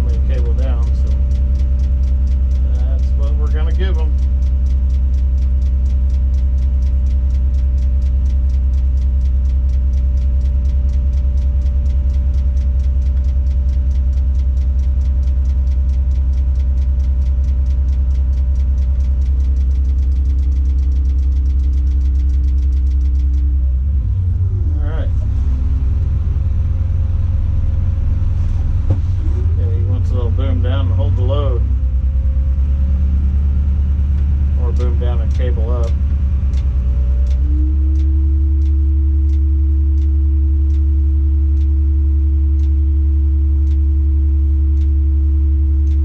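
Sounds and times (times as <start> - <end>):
fine even ticking: 0.0 - 23.8, 25.7 - 46.0
diesel engine droning: 0.0 - 46.0.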